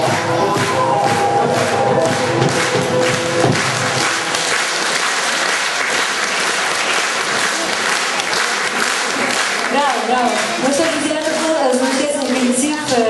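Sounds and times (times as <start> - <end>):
audience applauding: 0.0 - 13.0
music: 0.0 - 13.0.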